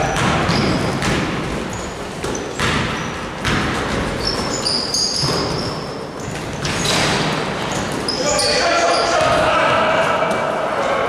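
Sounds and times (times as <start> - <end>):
sneakers squeaking on court: 0.0 - 9.4
basketballs bouncing on gym floor: 0.0 - 10.1.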